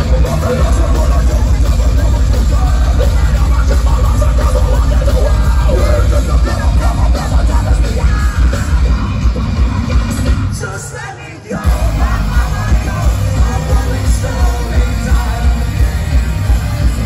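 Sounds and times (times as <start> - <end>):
heavy metal band playing live: 0.0 - 17.0
yelled vocals: 0.0 - 17.0.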